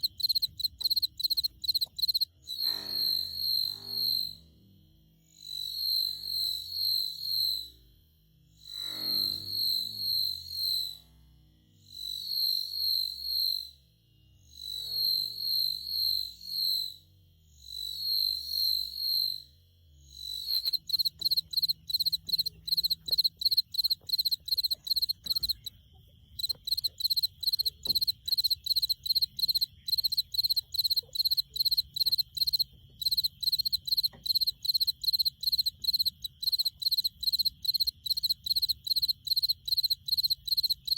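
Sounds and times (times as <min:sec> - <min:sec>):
cricket chirping: 0:00.0 - 0:04.5, 0:05.4 - 0:07.7, 0:11.8 - 0:40.9.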